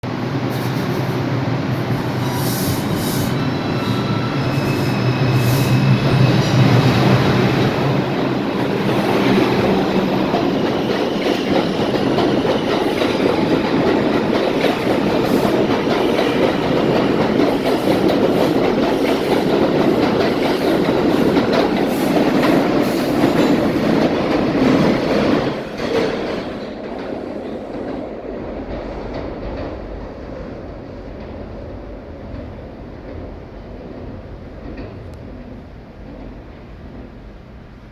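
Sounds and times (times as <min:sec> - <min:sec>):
subway train rumbling past: 0:00.0 - 0:37.9.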